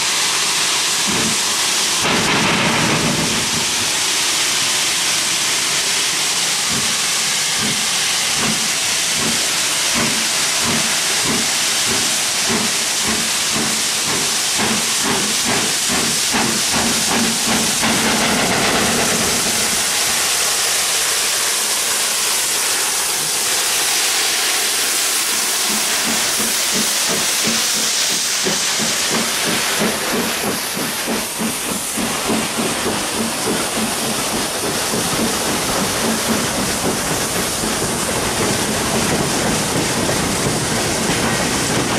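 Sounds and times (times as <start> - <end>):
loud steam hiss: 0.0 - 41.9
steam locomotive exhaust beats: 0.0 - 41.9.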